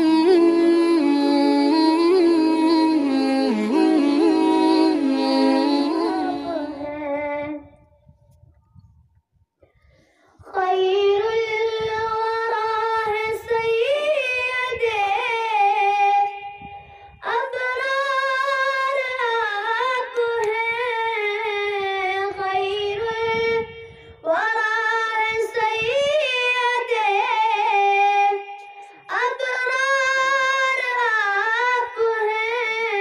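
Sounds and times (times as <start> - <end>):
boy singing unaccompanied: 0.0 - 7.8, 10.4 - 33.0.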